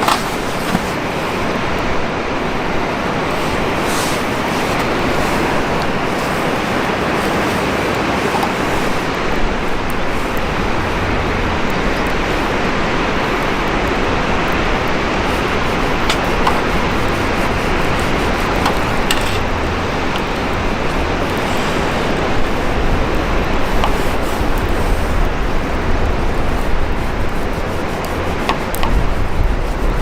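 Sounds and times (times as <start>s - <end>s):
campfire rushing: 0.0s - 30.0s
fire crackles and pops: 0.0s - 30.0s.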